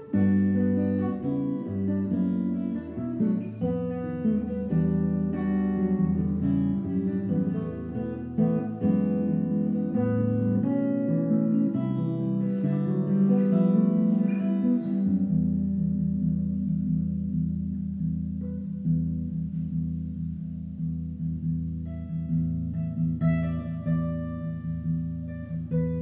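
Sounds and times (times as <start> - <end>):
electric jazz guitar: 0.0 - 26.0.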